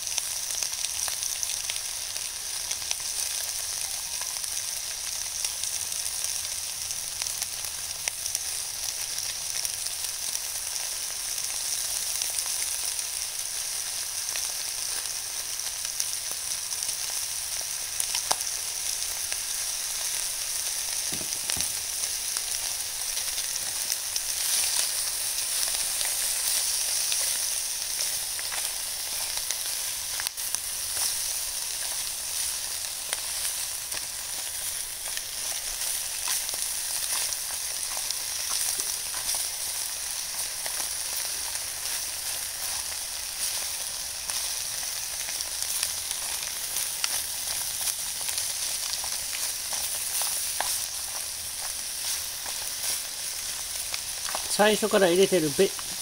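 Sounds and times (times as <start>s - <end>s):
food sizzling in a tray: 0.0s - 56.0s
small crackles and pops: 0.0s - 56.0s.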